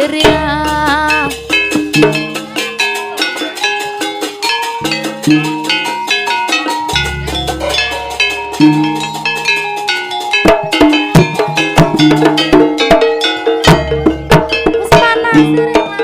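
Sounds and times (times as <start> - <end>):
percussion ensemble music: 0.0 - 16.0.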